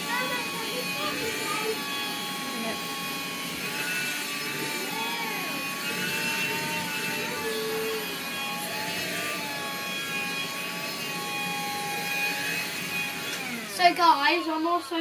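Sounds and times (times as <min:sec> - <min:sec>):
handheld vacuum motor whine: 0:00.0 - 0:15.0.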